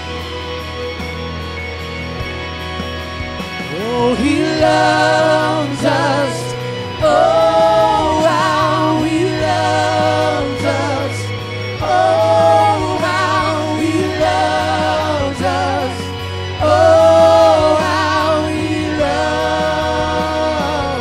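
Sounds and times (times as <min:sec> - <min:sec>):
low bass drone: 0:00.0 - 0:21.0
wordless singing with held notes: 0:03.6 - 0:21.0.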